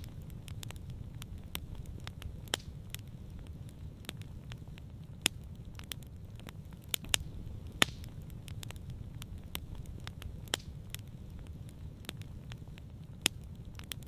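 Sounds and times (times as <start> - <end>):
campfire pops and snaps: 0.0 - 14.0
low rumble of flames: 0.0 - 14.0.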